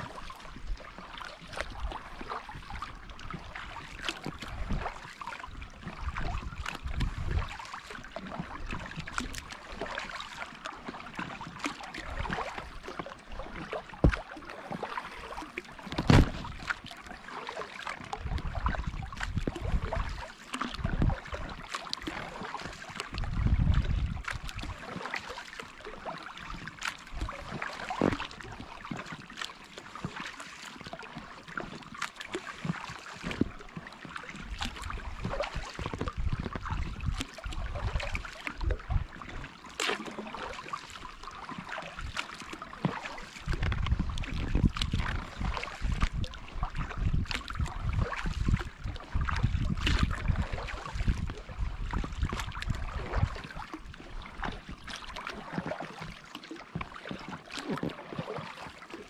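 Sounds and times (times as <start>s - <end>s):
paddle splashing in water: 0.0s - 59.0s.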